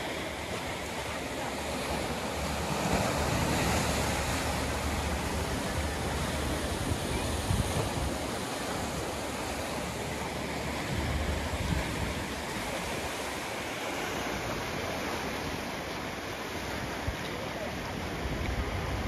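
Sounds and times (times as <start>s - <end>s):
ocean surf breaking on rocks: 0.0s - 19.0s.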